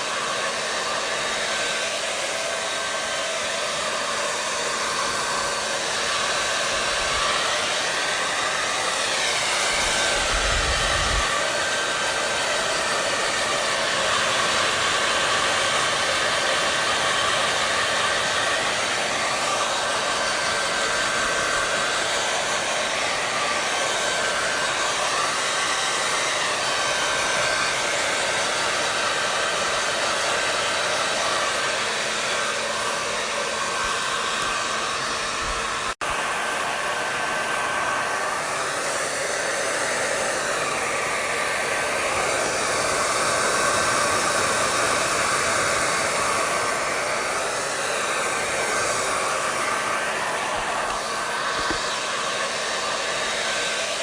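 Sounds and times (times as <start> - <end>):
hair dryer blowing air: 0.0 - 54.0
motor whine: 0.0 - 54.0.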